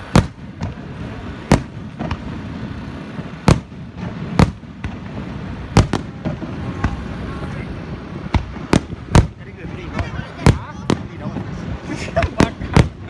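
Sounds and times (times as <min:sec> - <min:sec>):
faint fireworks bangs: 0:00.0 - 0:13.0
fireworks booming: 0:00.0 - 0:13.0.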